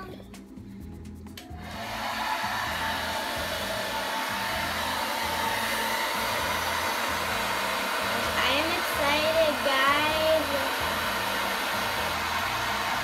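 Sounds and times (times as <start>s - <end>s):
hair dryer blowing: 1.4s - 13.0s.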